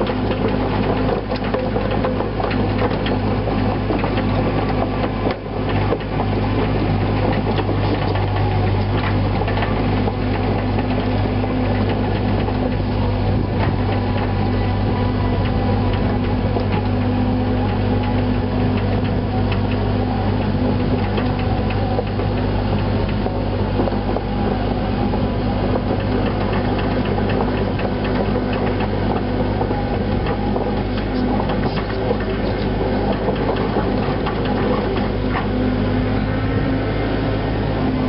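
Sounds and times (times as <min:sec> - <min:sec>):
excavator diesel engine running: 0:00.0 - 0:38.0
machine clanks and rattles: 0:00.0 - 0:38.0.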